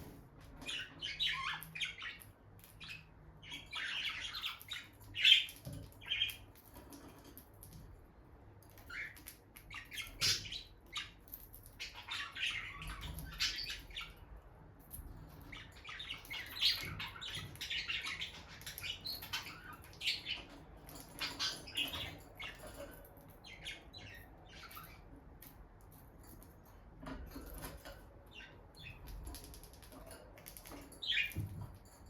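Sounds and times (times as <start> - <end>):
lovebirds chirping: 0.0 - 6.8, 8.7 - 26.5, 27.5 - 31.8.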